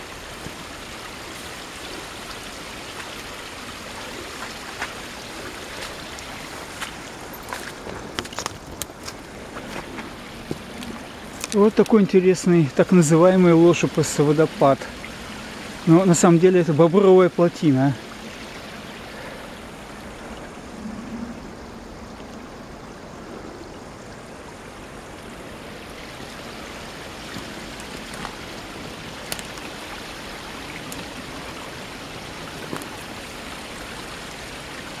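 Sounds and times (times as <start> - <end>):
stream water trickling: 0.0 - 35.0.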